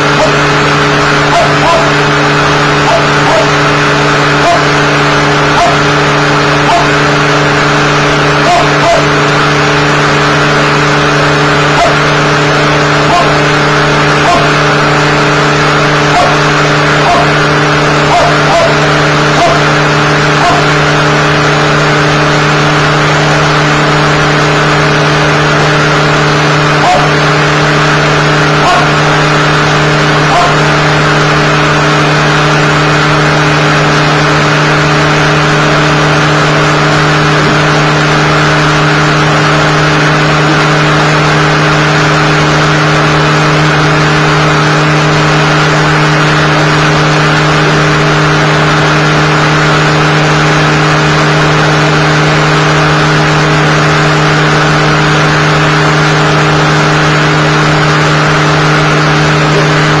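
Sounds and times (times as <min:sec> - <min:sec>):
vacuum cleaner motor hum: 0:00.0 - 1:00.0.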